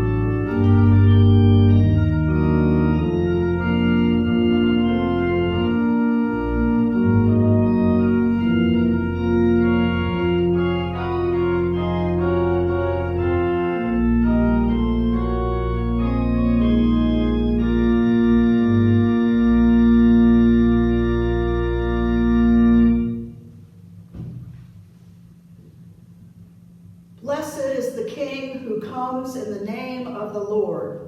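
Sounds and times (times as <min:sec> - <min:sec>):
church organ chords: 0:00.0 - 0:31.0.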